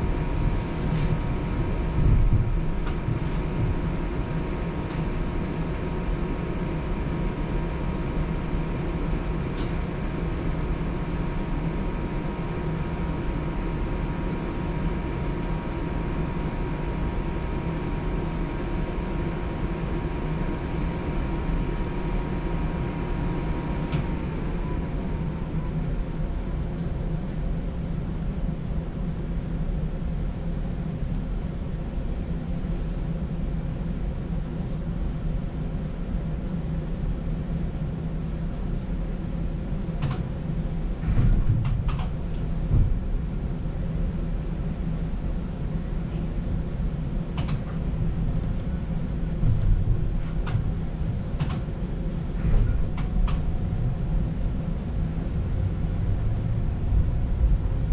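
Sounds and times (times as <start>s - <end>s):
streetcar running rumble and whine: 0.0s - 57.9s.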